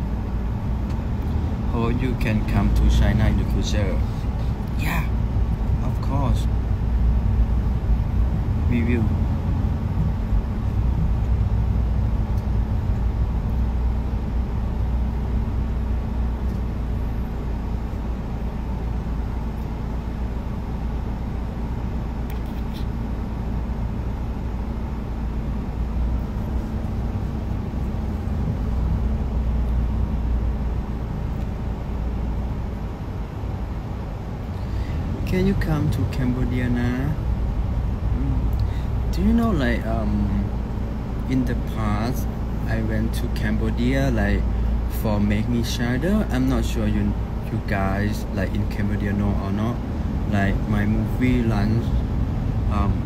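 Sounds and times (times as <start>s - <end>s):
van engine rumbling: 0.0s - 53.0s.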